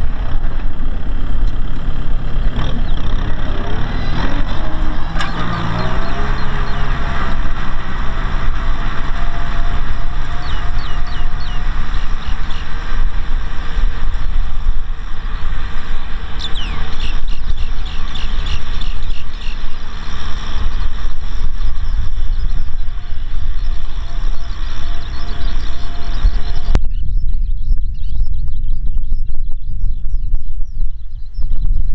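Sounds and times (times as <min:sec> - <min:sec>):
tractor diesel engine under load: 0:00.0 - 0:26.8.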